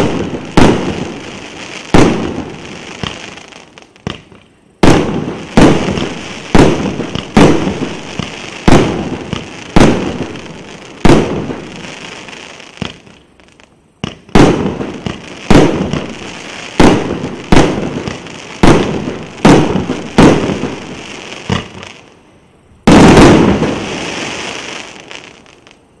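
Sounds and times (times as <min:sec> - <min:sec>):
fireworks bangs: 0:00.0 - 0:22.2, 0:22.8 - 0:25.8.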